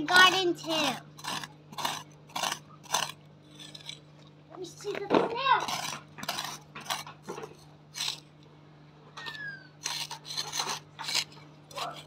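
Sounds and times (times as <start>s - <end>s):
trowel scraping gravelly soil: 0.0s - 8.3s, 9.3s - 12.0s.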